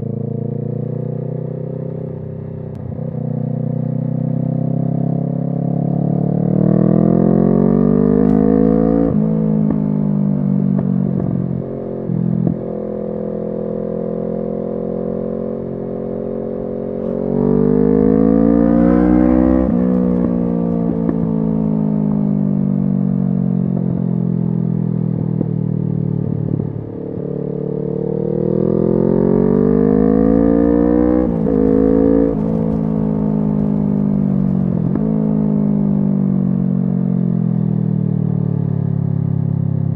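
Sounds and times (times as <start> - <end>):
motorcycle accelerating: 0.0 - 39.9.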